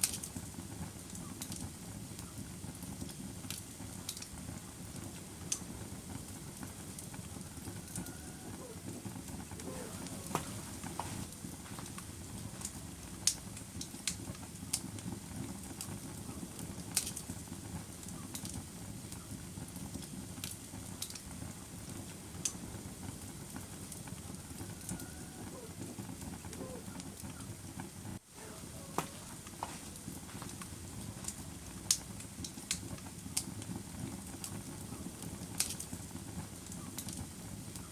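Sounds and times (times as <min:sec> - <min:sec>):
fire crackling and popping: 0:00.0 - 0:37.9
rush of flames: 0:00.0 - 0:37.9.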